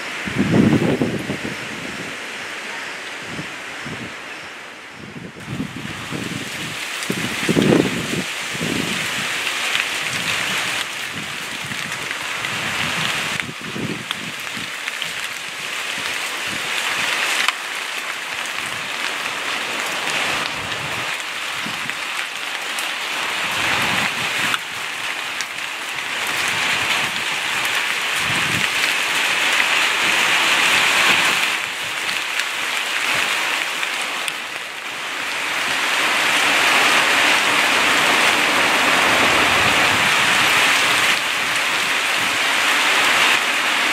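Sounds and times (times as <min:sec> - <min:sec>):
rain on shrubs and paving: 0:00.0 - 0:43.9.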